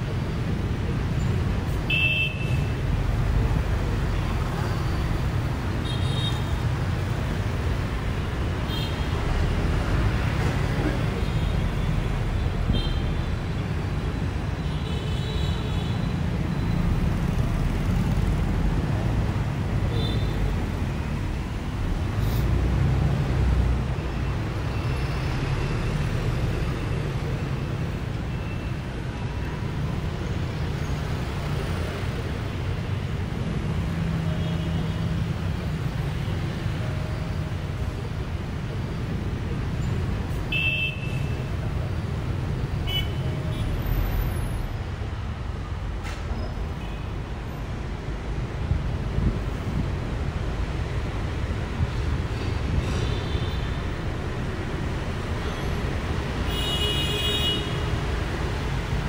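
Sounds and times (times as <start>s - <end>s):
low rumble of traffic: 0.0s - 59.0s.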